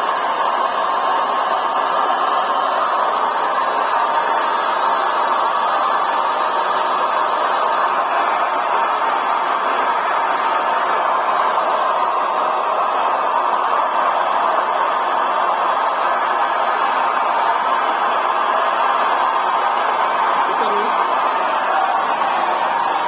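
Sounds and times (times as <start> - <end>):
vacuum motor rushing with whine: 0.0 - 23.0.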